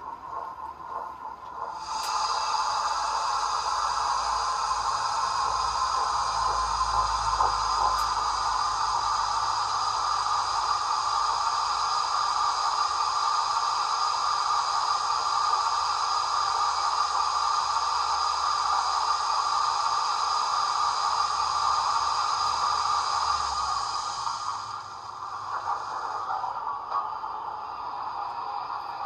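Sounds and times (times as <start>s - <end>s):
simulated steam hiss from speaker: 0.0s - 29.0s.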